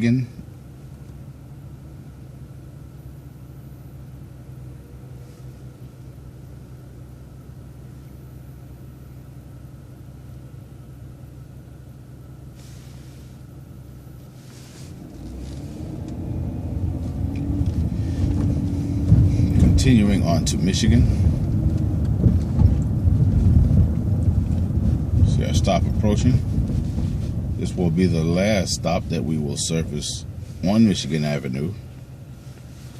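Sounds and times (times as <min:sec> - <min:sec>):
bus engine idling and revving: 0:00.0 - 0:32.9.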